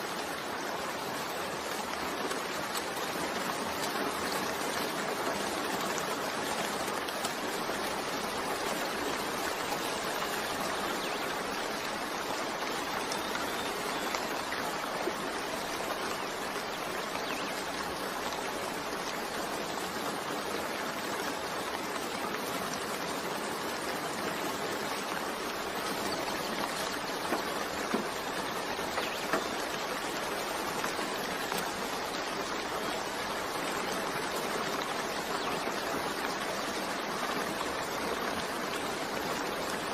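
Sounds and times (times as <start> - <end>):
gentle rain: 0.0 - 39.9
raindrops ticking: 0.1 - 39.9.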